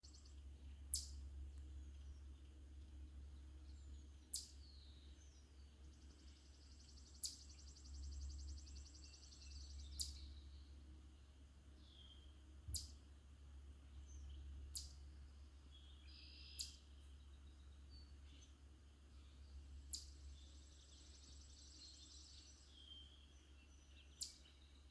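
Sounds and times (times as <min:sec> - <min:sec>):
songbirds chipping and trilling: 0:00.0 - 0:24.9.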